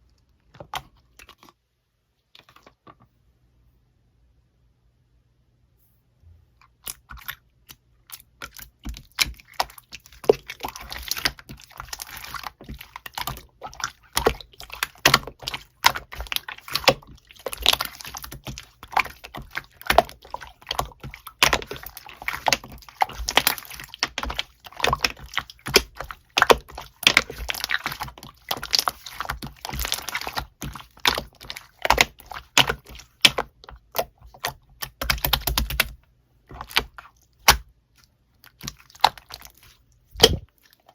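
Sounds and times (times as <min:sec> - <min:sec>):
slime squished by hand: 0:06.7 - 0:40.9.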